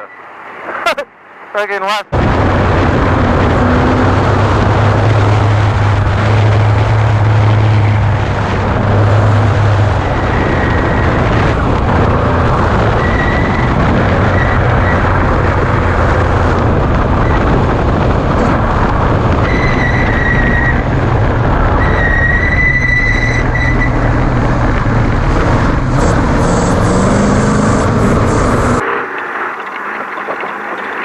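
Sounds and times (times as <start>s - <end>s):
high whine: 0.0s - 31.0s
road and wind rumble: 0.0s - 31.0s
truck engine running hard: 2.4s - 28.8s.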